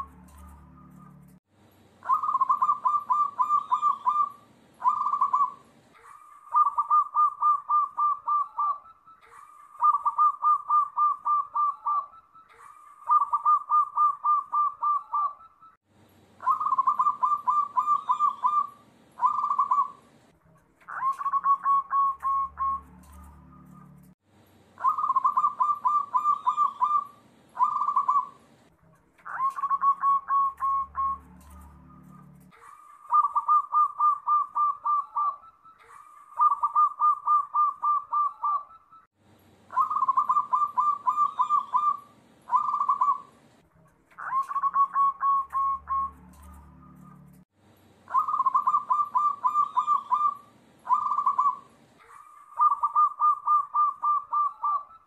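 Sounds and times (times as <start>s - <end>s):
doves cooing: 2.0s - 15.6s, 16.4s - 20.2s, 20.9s - 24.1s, 24.8s - 28.6s, 29.2s - 38.8s, 39.7s - 43.4s, 44.2s - 47.4s, 48.1s - 55.0s.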